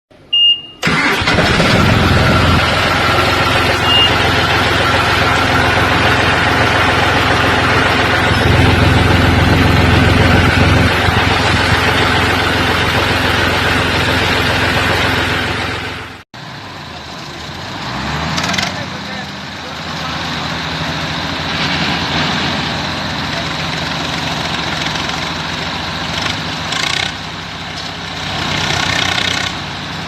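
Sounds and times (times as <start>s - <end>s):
tractor diesel engines running: 0.8s - 30.0s.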